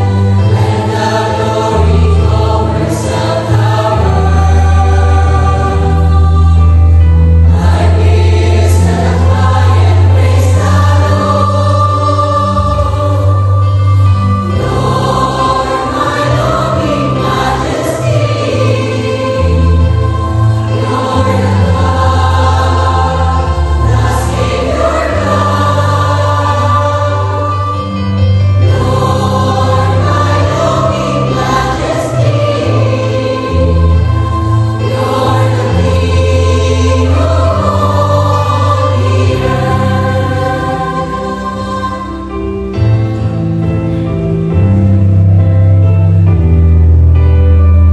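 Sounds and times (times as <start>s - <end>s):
mixed choir singing a hymn: 0.0s - 43.6s.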